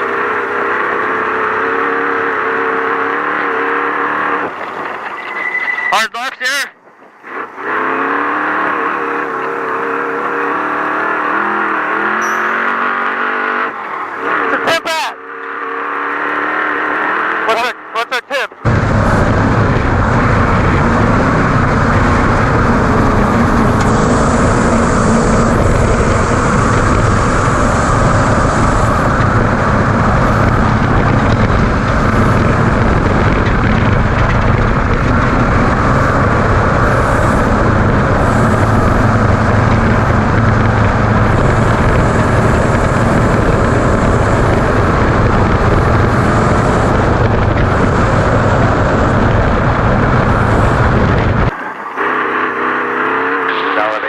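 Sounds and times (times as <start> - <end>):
truck engine drone: 0.0 - 54.0
tyre and rough-terrain noise: 0.0 - 54.0.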